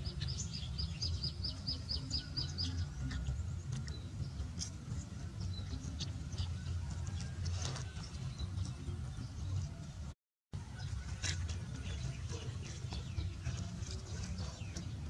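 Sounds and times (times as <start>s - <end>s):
bird chirping: 0.0s - 10.1s, 10.8s - 15.0s.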